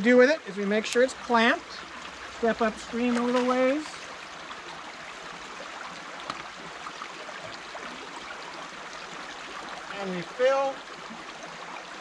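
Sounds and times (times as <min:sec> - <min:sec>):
creek babbling over rocks: 0:00.0 - 0:12.0
splashes from wading: 0:00.6 - 0:12.0.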